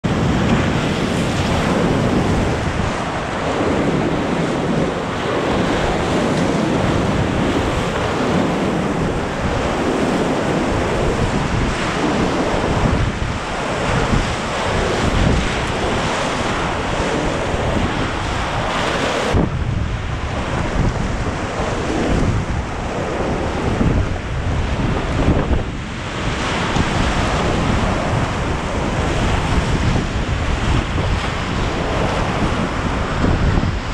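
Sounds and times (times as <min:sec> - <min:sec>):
wind buffeting microphone: 0:00.0 - 0:33.9
rushing whitewater rapids: 0:00.4 - 0:33.9.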